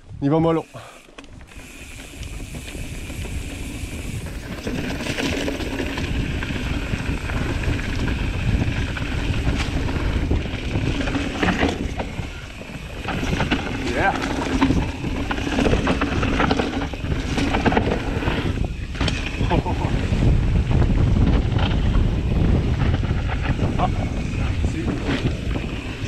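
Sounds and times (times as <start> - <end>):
bike tyre and frame rattle: 0.6 - 26.0
sharp clacks over bumps: 1.0 - 19.7, 20.6 - 26.0
wind buffeting microphone: 1.3 - 26.0.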